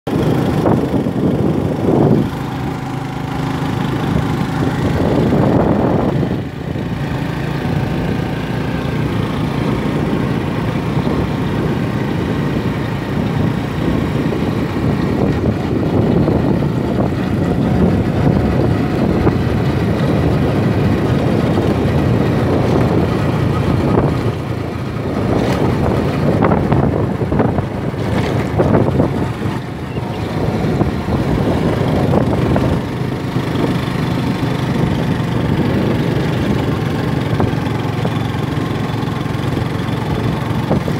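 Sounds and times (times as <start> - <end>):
small motorcycle engine running: 0.1 - 40.9.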